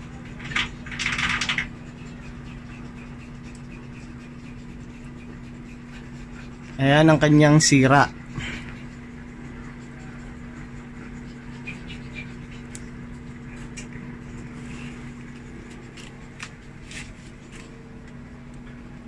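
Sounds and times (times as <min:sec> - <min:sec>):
washing machine drain pump humming: 0:00.0 - 0:19.0.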